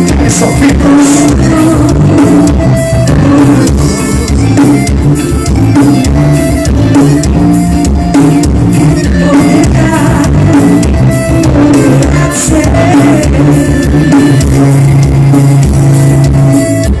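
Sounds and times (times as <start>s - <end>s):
music with singing through car speakers: 0.0s - 17.0s.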